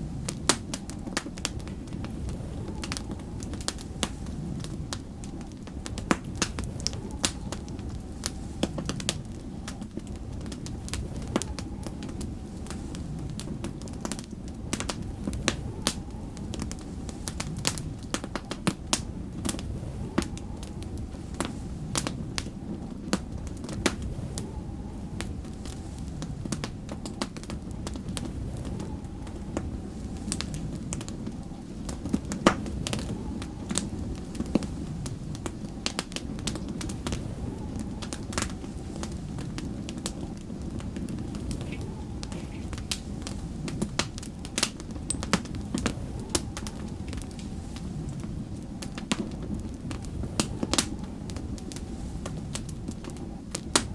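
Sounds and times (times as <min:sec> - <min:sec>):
storm wind rumble: 0:00.0 - 0:53.9
wood fire crackling and popping: 0:00.0 - 0:53.9.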